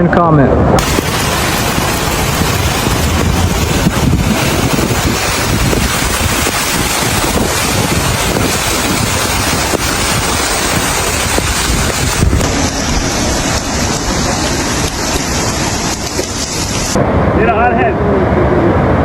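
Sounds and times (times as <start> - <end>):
wind buffeting microphone: 0.6 - 19.0
floodwater rushing: 0.8 - 17.3.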